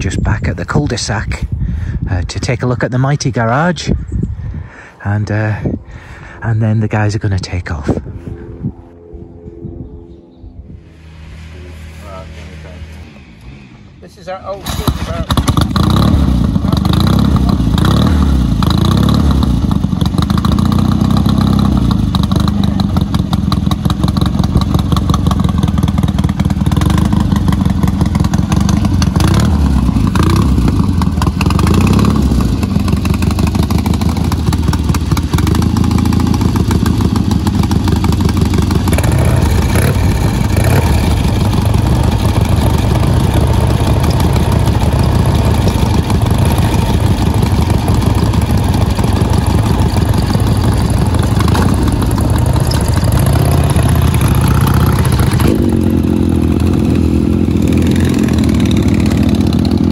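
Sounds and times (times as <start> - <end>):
motorcycle engines revving: 8.1 - 59.9.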